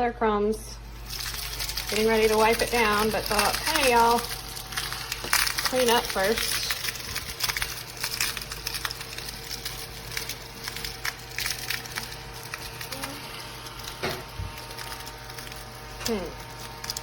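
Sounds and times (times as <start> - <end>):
crumbs clicking and crackling: 0.8 - 17.0
mini vacuum running: 0.8 - 17.0.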